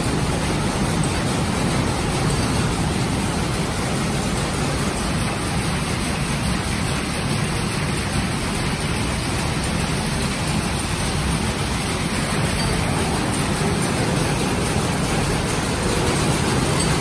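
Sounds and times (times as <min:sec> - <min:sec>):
power looms running: 0:00.0 - 0:17.0.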